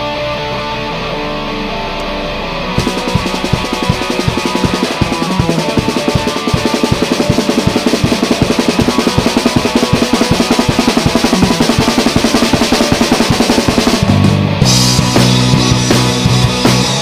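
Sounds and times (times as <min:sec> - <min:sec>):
fast rock drumming: 0:00.0 - 0:17.0
sustained guitar and bass: 0:00.0 - 0:17.0.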